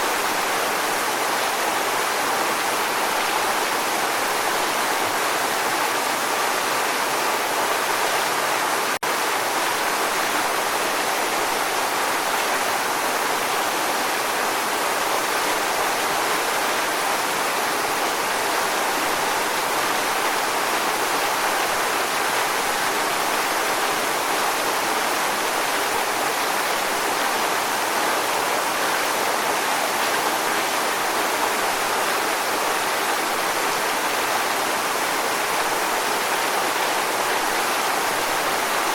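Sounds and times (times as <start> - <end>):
waterfall roar: 0.0 - 38.9.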